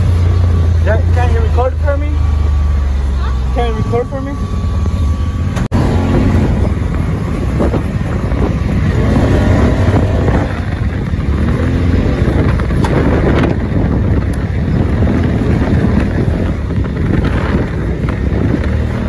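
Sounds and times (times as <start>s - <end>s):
off-road vehicle engine rumbling: 0.0s - 19.0s
wind buffeting microphone: 0.0s - 19.0s.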